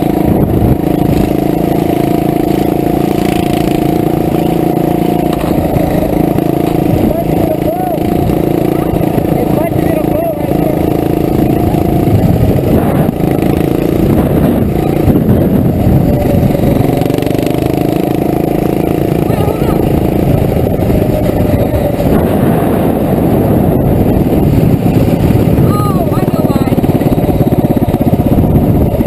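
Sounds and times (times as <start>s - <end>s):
mini-bike engines revving: 0.0s - 29.0s.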